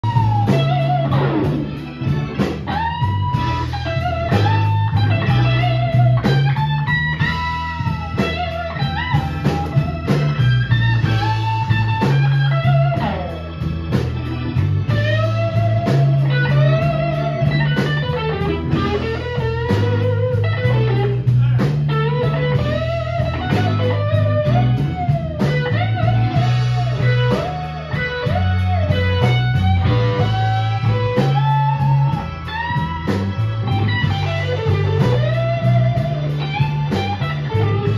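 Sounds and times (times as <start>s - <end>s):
bass guitar line: 0.0s - 37.9s
electric guitar lead with bends: 0.0s - 37.9s.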